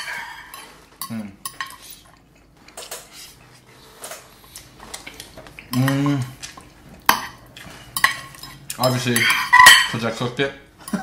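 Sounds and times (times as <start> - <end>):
cutlery scraping on plates: 0.0 - 6.3, 7.1 - 10.1.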